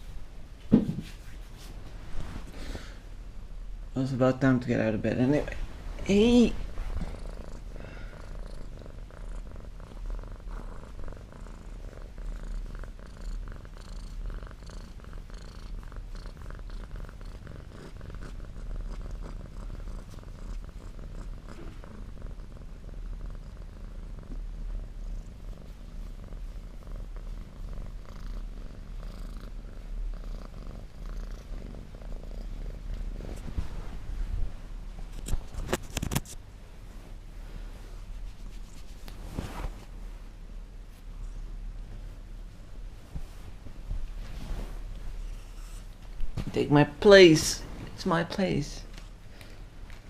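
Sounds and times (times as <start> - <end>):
cat purring: 4.4 - 36.2, 36.9 - 50.0.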